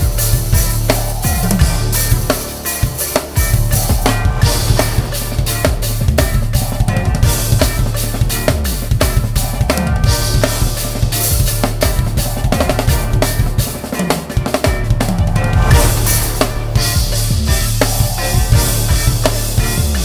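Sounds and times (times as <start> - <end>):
deep steady bass: 0.0 - 2.6, 3.4 - 13.9, 14.7 - 20.0
acoustic drum kit: 0.0 - 20.0
trap backing track: 0.0 - 20.0.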